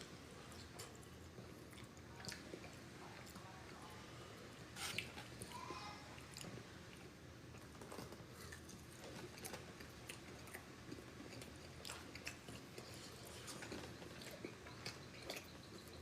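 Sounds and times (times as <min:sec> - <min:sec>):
chewing: 0:00.4 - 0:03.9, 0:04.5 - 0:16.0.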